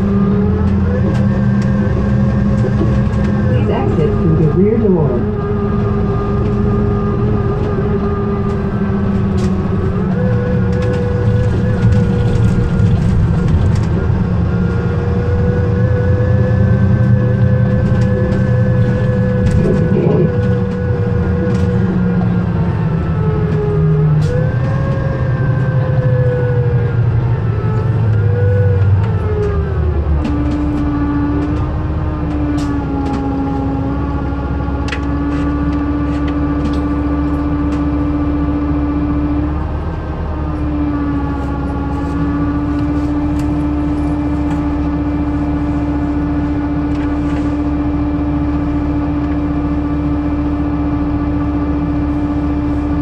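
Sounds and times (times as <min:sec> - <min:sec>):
bus diesel engine whining: 0:00.0 - 0:53.0.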